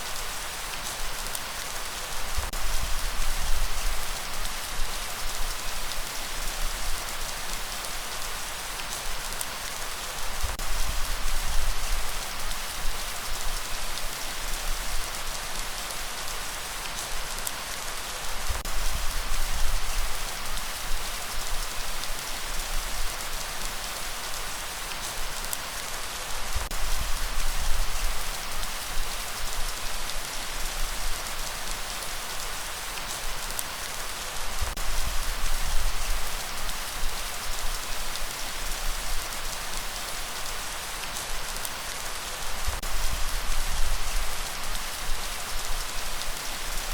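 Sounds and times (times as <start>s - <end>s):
light rain falling: 0.0s - 46.9s.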